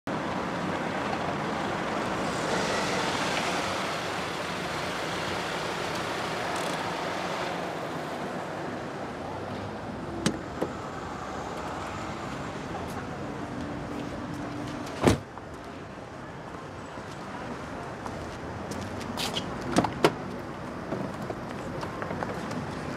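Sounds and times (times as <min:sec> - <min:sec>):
street traffic noise: 0:00.1 - 0:22.9.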